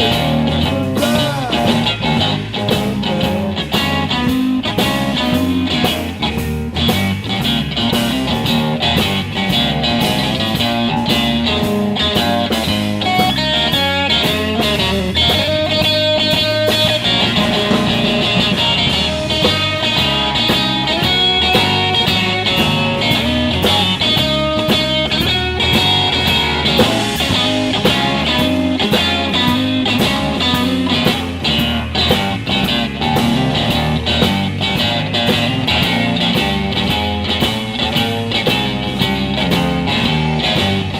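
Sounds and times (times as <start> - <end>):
bass: 0.0 - 40.9
drums: 0.0 - 40.9
electric guitar: 0.0 - 40.9.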